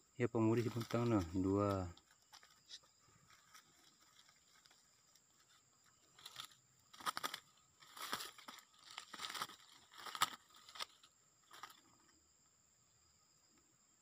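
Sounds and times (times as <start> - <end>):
rustling and crackling: 0.5 - 12.2.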